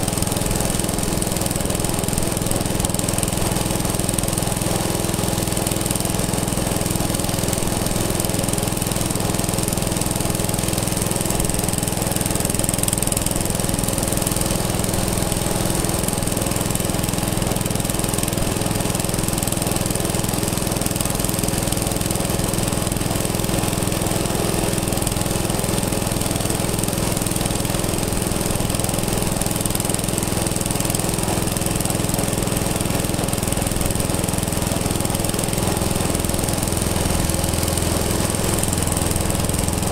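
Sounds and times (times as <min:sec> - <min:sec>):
engine chugging steadily: 0:00.0 - 0:39.9.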